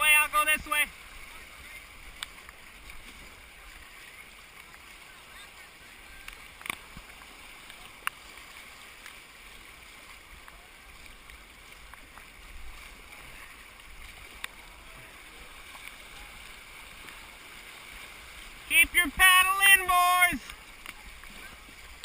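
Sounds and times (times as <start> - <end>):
creek water over rocks: 0.0 - 22.0.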